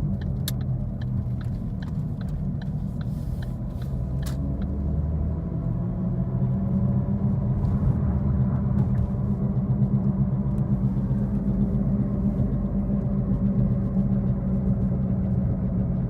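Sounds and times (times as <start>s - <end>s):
wheel bearing droning in car cabin: 0.0s - 16.0s.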